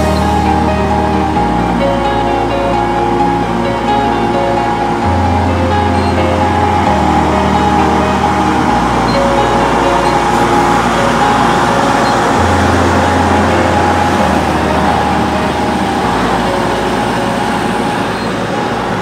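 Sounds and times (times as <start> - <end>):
background music with bass: 0.0 - 19.0
diesel truck engine running: 0.0 - 19.0.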